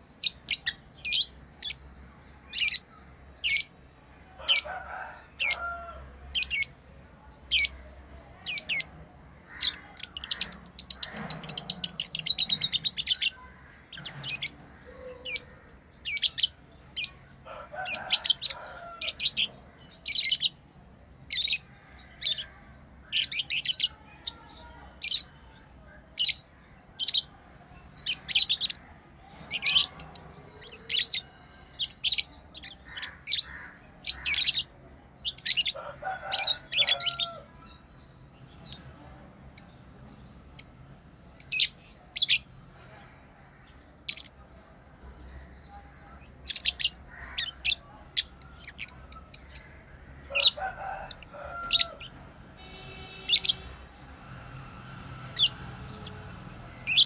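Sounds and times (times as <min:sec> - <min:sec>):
lovebirds chirping: 0:00.0 - 0:57.0
birds rapid chattering: 0:07.5 - 0:57.0.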